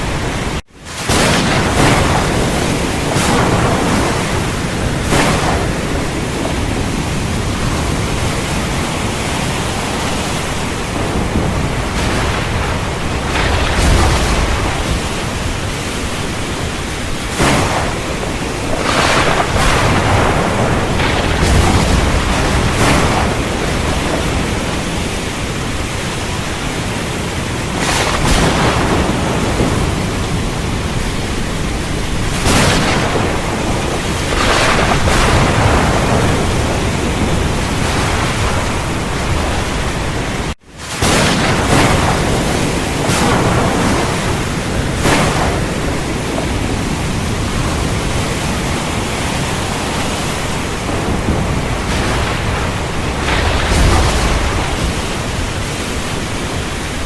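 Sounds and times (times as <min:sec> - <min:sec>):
heavy rain falling: 0:00.0 - 0:57.0
thunder: 0:00.0 - 0:57.0.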